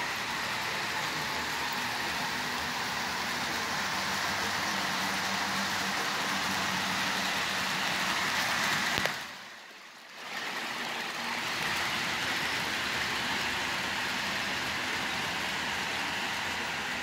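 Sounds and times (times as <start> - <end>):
model train motors whirring: 0.0 - 17.0
wheels rolling on track: 0.0 - 17.0.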